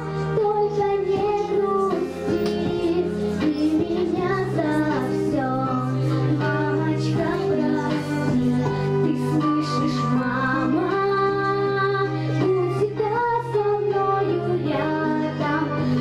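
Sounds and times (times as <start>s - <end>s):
girl singing into microphone: 0.0s - 16.0s
instrumental accompaniment: 0.0s - 16.0s.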